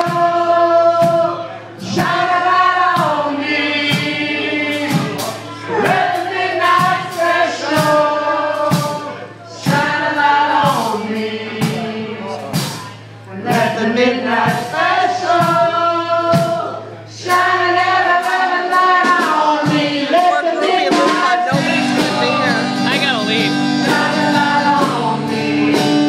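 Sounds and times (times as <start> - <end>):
voices singing together: 0.0 - 26.0.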